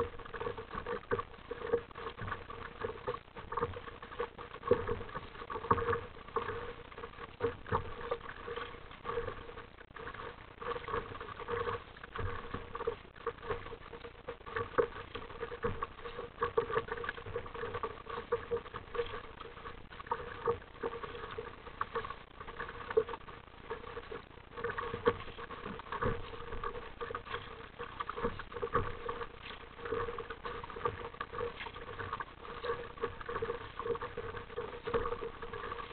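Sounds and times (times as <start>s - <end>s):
waves slapping against kayak bow: 0.0s - 35.9s.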